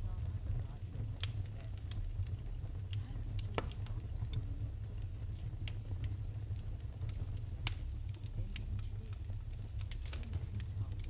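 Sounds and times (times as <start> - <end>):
low rumble: 0.0 - 11.0
sharp fire pops: 0.0 - 11.0
wood fire crackling: 0.0 - 11.0.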